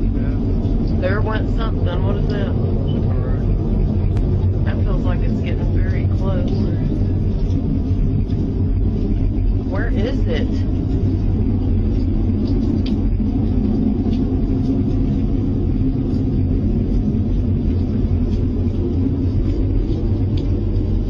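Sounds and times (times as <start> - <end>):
low rumbling drone from sky: 0.0 - 21.0
wavering hum: 0.0 - 21.0.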